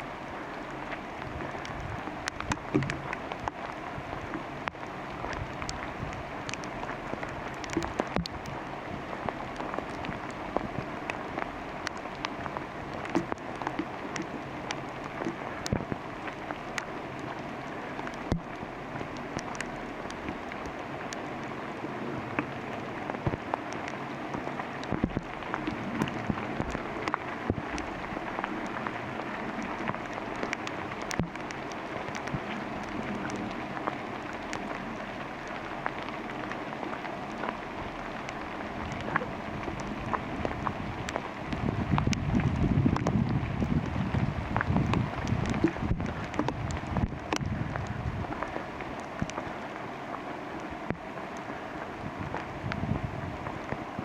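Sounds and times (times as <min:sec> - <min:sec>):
raindrops tapping close by: 0:00.0 - 0:54.0
steady rain through forest canopy: 0:00.0 - 0:54.0.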